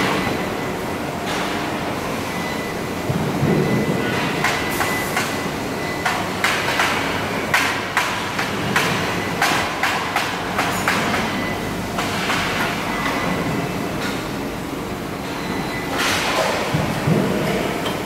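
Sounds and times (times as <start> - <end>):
factory din: 0.0 - 18.0.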